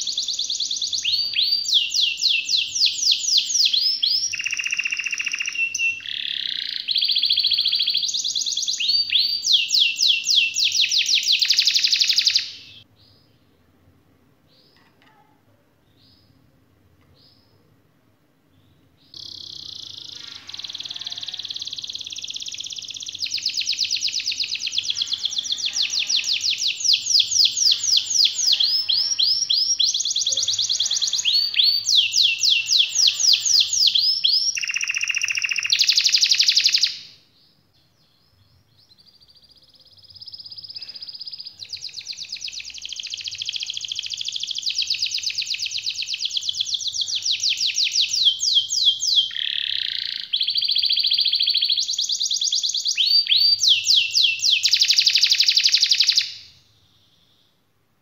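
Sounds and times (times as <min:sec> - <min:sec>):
canary singing trills: 0:00.0 - 0:13.4, 0:18.6 - 0:57.6.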